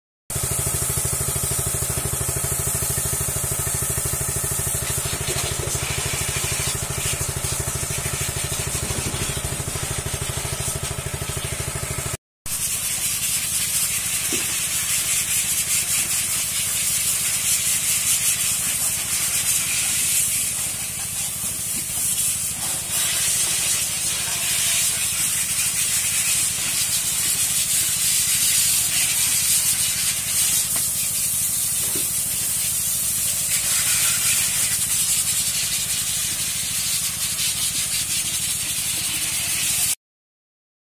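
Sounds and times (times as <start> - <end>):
small petrol engine running: 0.3 - 12.2, 13.4 - 40.0
high-pressure water jets hissing: 0.3 - 40.0.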